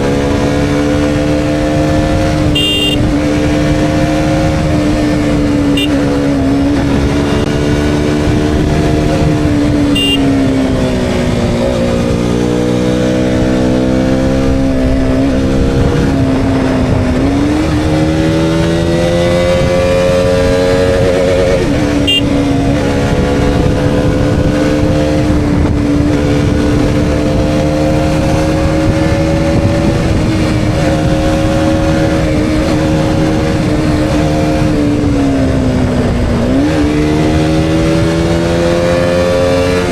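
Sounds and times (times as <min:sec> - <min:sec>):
motorcycle engine through gears: 0:00.0 - 0:39.9.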